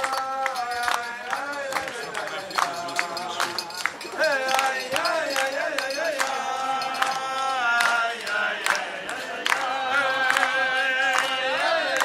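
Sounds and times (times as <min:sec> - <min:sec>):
group of people singing: 0:00.0 - 0:12.0
sharp hand claps: 0:00.0 - 0:12.0.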